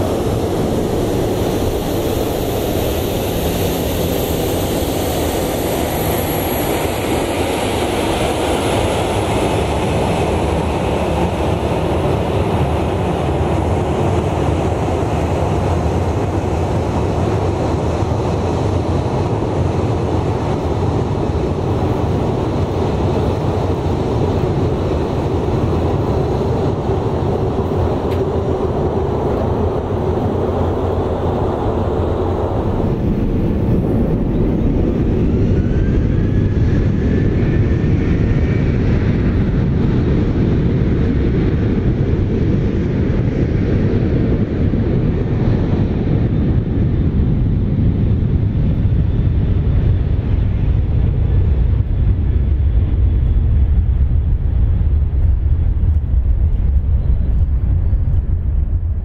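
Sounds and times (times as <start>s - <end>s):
high fan whine: 0.0s - 59.0s
jet engine rumble: 0.0s - 59.0s.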